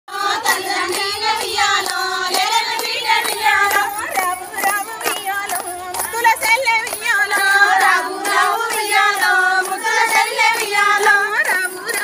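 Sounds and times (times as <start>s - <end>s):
rhythmic hand claps: 0.1s - 12.0s
women singing folk song: 0.1s - 12.0s.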